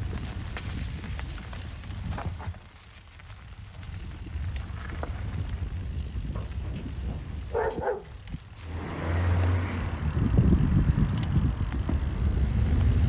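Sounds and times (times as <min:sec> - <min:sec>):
mountain bike riding rumble: 0:00.0 - 0:13.0.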